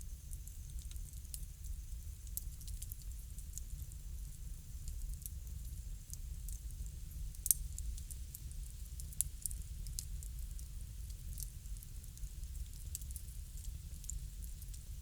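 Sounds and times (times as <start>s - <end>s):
bonfire crackling: 0.3s - 15.0s.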